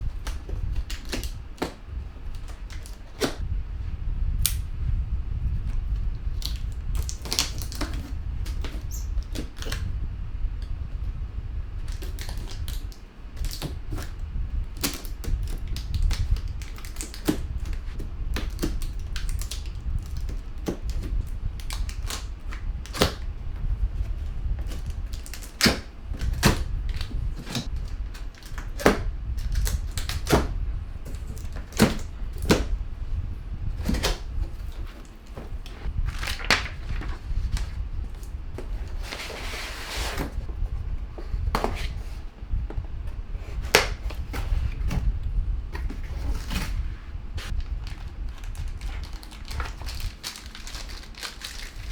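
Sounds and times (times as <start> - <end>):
steady low rumble: 0.0 - 8.6, 9.2 - 14.8, 17.4 - 39.4, 40.3 - 51.2
packing rustle: 6.0 - 9.9, 11.8 - 42.3, 43.3 - 51.9.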